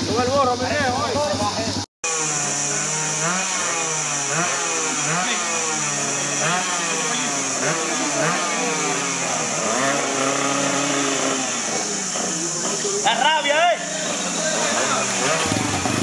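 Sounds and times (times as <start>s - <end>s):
racing engine revving: 2.1s - 16.0s.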